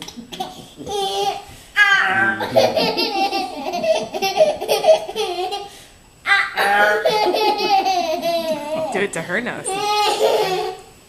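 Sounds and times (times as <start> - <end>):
small child laughing: 0.0 - 5.7, 6.3 - 9.0, 9.7 - 10.9.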